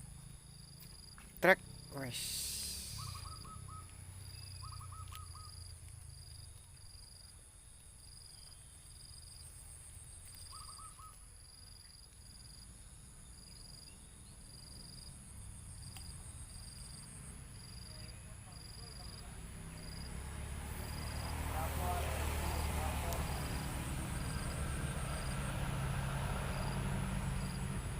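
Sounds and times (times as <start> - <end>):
insects trilling and chirping: 0.0 - 27.9.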